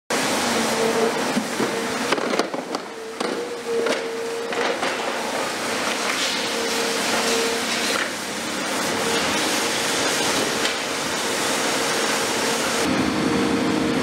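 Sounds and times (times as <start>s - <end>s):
machine hum: 0.1s - 14.0s
steady machine noise: 0.1s - 14.0s.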